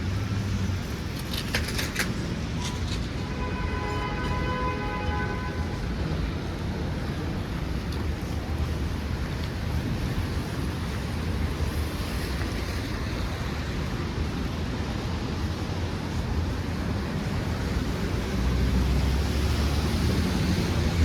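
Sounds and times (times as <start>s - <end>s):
low street rumble: 0.0s - 21.0s.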